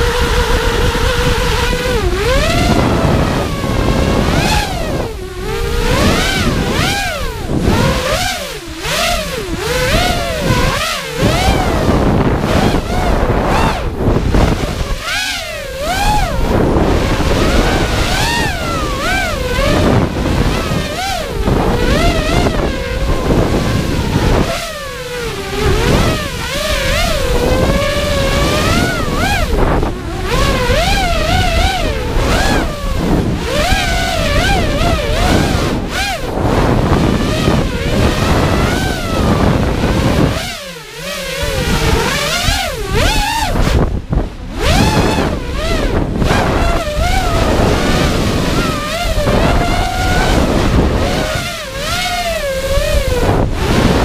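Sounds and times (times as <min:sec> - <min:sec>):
drone motors whining: 0:00.0 - 0:54.0
wind rush on microphone: 0:00.0 - 0:54.0.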